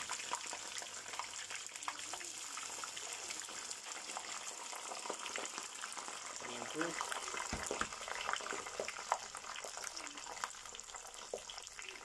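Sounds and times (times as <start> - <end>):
hot oil bubbling and crackling: 0.0 - 12.0.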